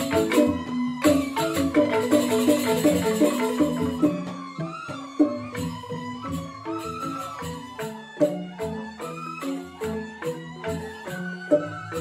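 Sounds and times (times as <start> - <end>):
bamboo xylophones playing: 0.0 - 12.0
light rattling percussion: 0.0 - 12.0.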